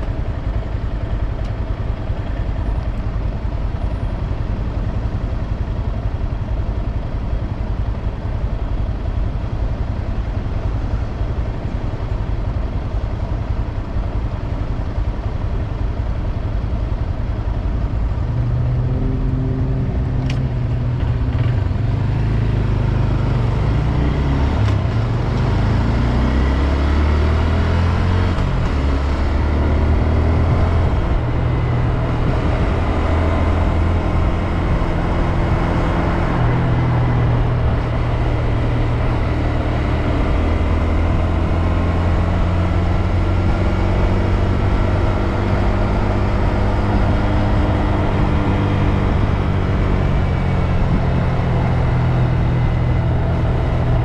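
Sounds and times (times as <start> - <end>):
motorcycle engine rumbling: 0.0 - 54.0.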